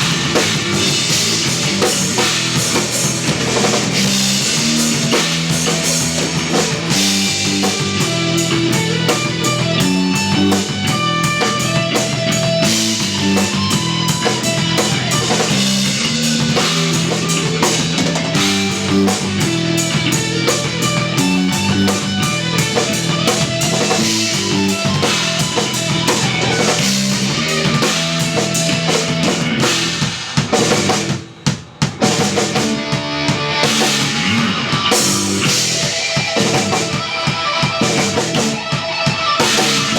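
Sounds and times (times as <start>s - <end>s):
electric bass: 0.0s - 31.2s, 32.0s - 39.9s
drum kit: 0.0s - 39.9s
electric guitar: 0.0s - 39.9s.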